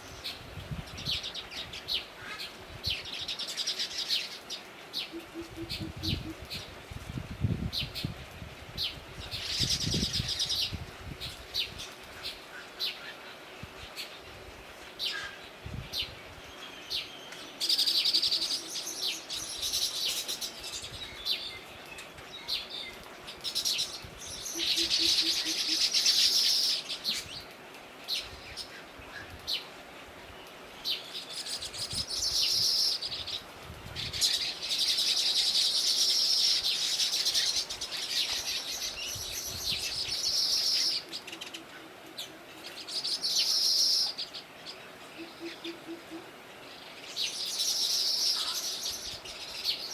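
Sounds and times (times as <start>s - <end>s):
small birds twittering: 8.8s - 29.7s, 30.3s - 49.9s.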